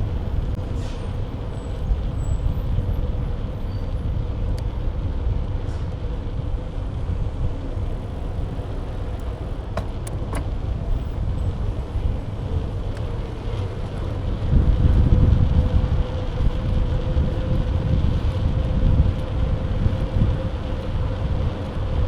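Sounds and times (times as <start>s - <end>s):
bike road rumble: 0.0s - 22.0s
wind buffeting microphone: 0.0s - 22.0s.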